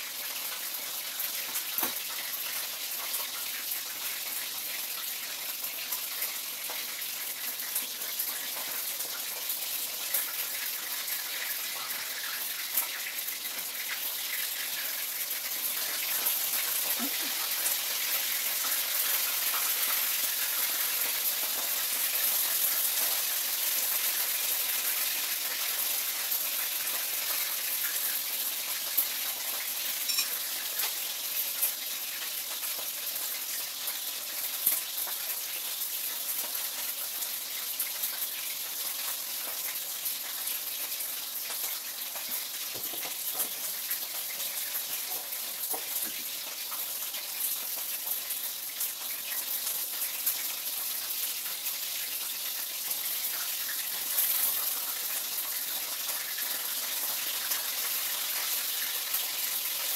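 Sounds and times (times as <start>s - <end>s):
food sizzling in hot oil: 0.0s - 59.9s.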